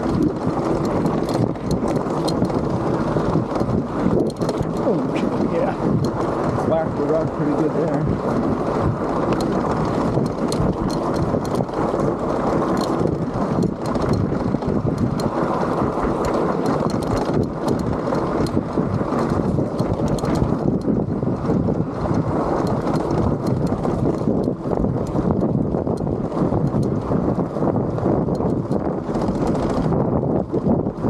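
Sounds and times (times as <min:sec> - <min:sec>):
bike rattling: 0:00.0 - 0:31.0
wind rumble on microphone: 0:00.0 - 0:31.0.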